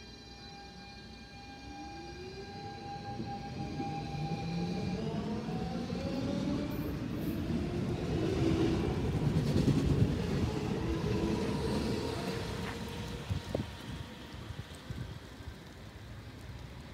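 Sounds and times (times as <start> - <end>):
wheels rumbling on rail: 1.4 - 16.9.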